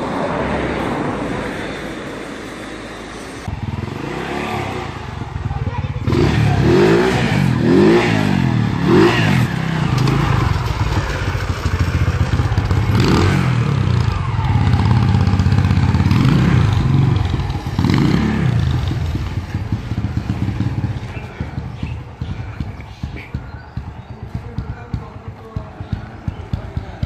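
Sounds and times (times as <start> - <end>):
quad bike engine revving: 3.5 - 27.0.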